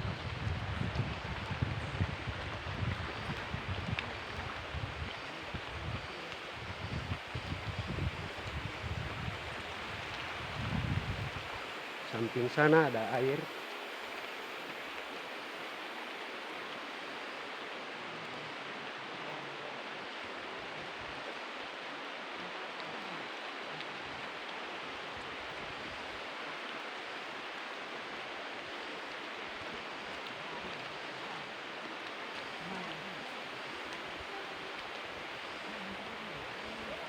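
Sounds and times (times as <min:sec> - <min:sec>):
flowing stream water: 0:00.0 - 0:37.0.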